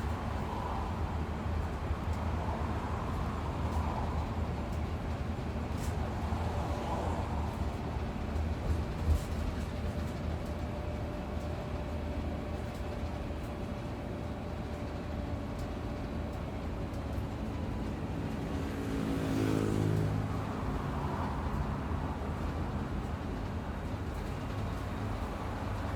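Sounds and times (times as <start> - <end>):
bus engine and road rumble: 0.0 - 25.9.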